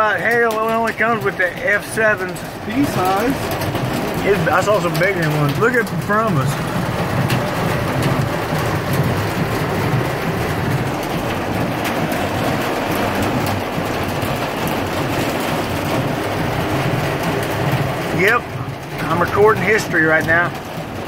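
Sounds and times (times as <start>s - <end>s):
hail and rain on car roof: 0.0s - 21.0s.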